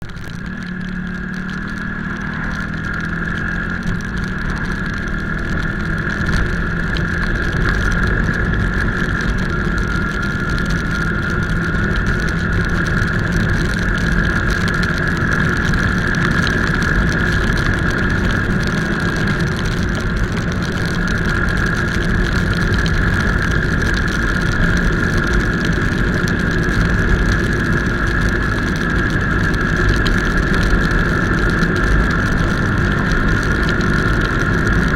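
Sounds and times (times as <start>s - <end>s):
motorcycle engine rumble: 0.0s - 34.9s.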